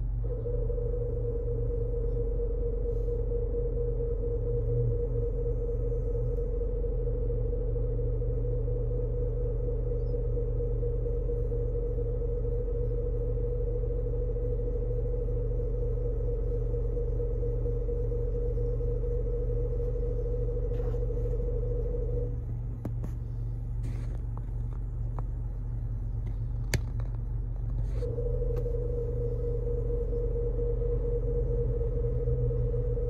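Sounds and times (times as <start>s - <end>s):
car engine idling: 0.0s - 33.0s
mid-pitched hum: 0.0s - 33.0s.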